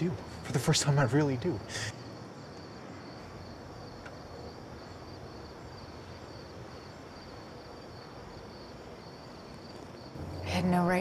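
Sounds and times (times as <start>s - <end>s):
crickets chirping: 0.0s - 11.0s
low steady hiss: 0.0s - 11.0s.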